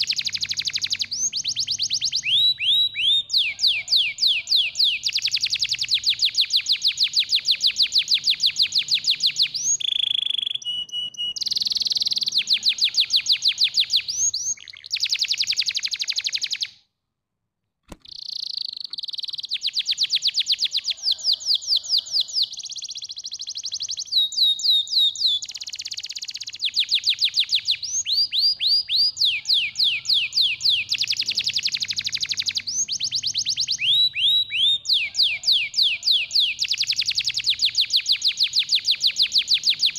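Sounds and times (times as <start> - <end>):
canary singing trills: 0.0 - 16.8, 18.0 - 39.9.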